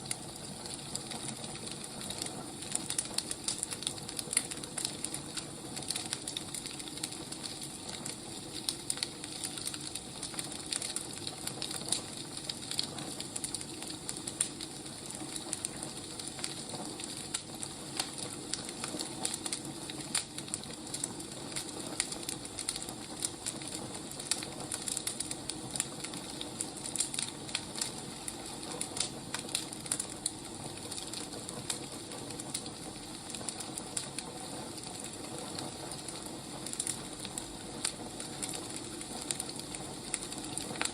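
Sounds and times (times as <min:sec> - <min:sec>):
firewood crackling and popping: 0:00.0 - 0:40.9.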